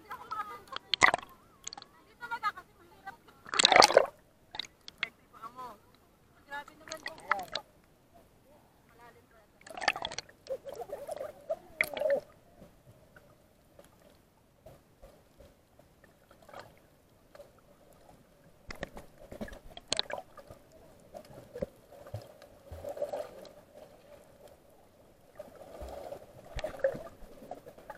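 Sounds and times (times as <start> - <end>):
muffled underwater swimming noise: 0.0 - 2.0, 3.3 - 5.3, 5.9 - 8.4, 9.5 - 27.9.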